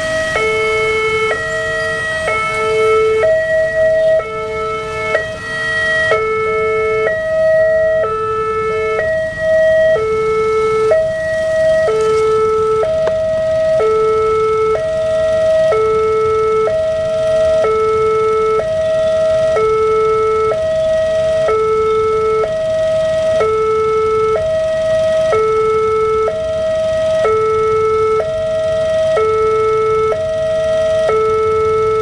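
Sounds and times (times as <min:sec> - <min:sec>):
level crossing two-tone alarm: 0:00.0 - 0:32.0.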